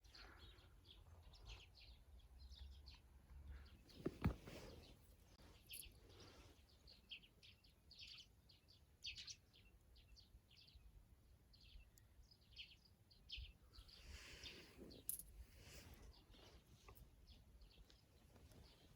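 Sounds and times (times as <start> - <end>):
faint small bird chirps: 0.0 - 18.9.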